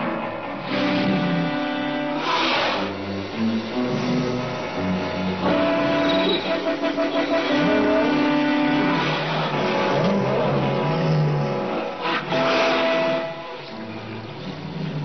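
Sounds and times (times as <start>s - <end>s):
ambient music with held notes: 0.0s - 15.0s
noisy swell: 0.0s - 15.0s.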